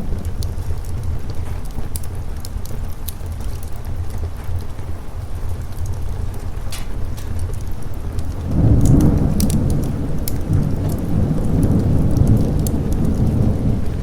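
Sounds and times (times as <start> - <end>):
sharp crackles: 0.0 - 14.0
steady rain: 0.0 - 14.0
thunder rumbling: 0.0 - 14.0.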